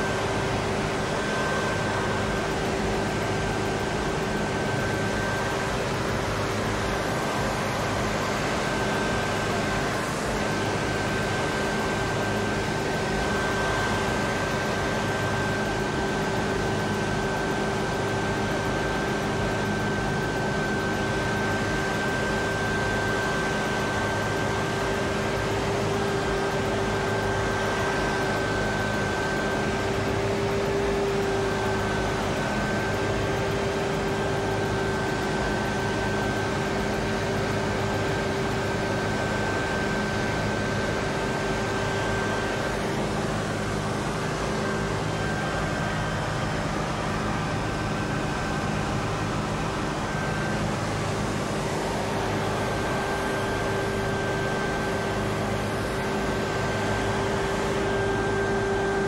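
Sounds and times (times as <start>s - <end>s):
machine drone: 0.0s - 59.0s.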